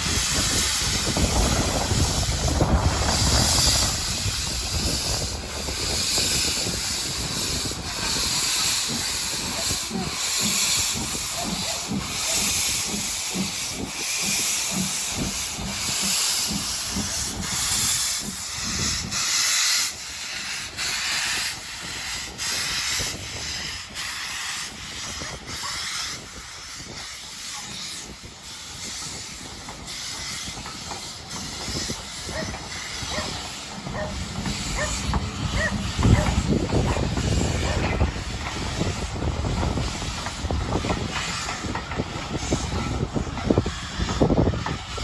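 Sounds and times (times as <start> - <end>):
steam locomotive hissing: 0.0 - 45.0.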